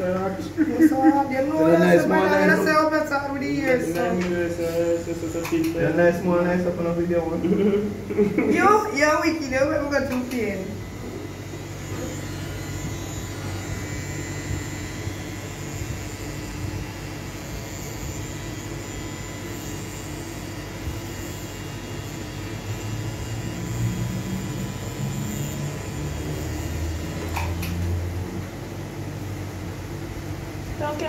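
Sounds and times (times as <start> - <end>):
tattoo machine humming: 0.0 - 31.0.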